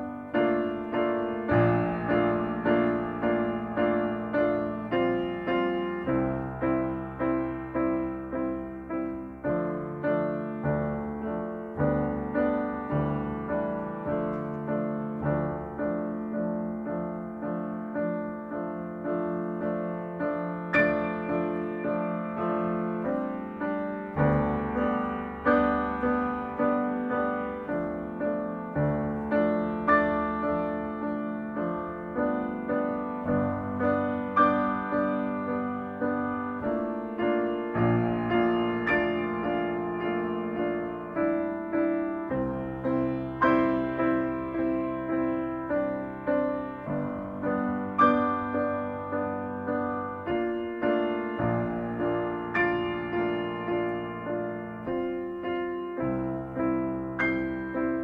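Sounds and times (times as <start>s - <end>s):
calm grand piano piece: 0.0s - 58.0s.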